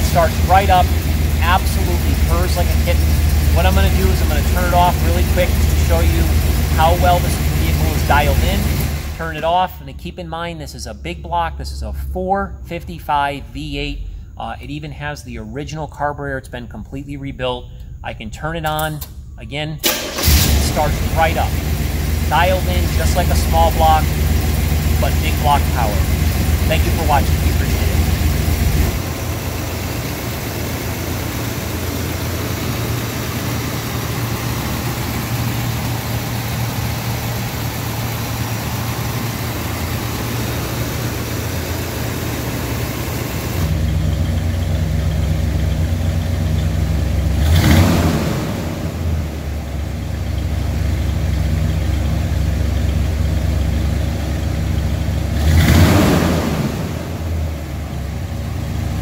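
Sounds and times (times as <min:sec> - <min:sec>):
car engine idling and revving: 0:00.0 - 0:09.8, 0:17.6 - 0:59.0.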